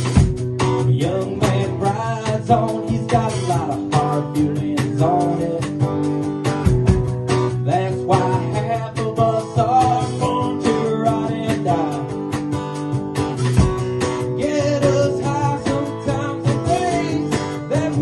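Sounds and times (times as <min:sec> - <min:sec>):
acoustic guitar strummed: 0:00.0 - 0:18.0
drum kit with cymbals: 0:00.0 - 0:18.0.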